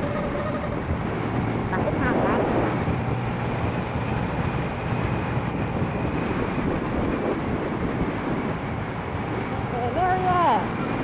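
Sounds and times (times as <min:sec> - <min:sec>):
road noise: 0:00.0 - 0:11.0
vehicle engine: 0:00.0 - 0:11.0
wind rushing over microphone: 0:00.0 - 0:11.0.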